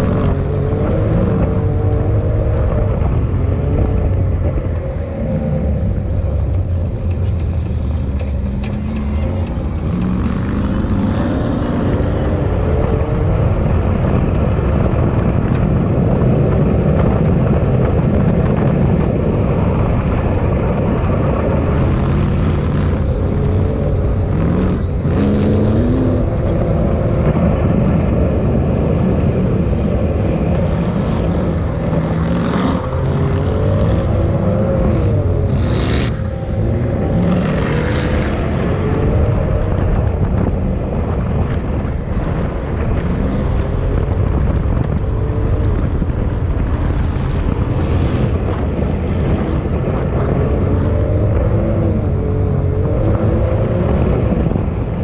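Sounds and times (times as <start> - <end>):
off-road vehicle engine: 0.0 - 55.0
wind gusts on microphone: 0.0 - 55.0.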